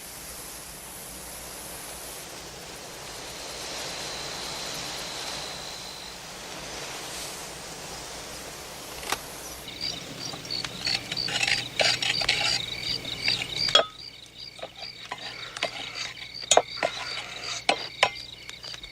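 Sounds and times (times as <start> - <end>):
background hiss: 0.0 - 18.9
insect chirping: 2.1 - 6.2, 7.9 - 18.9.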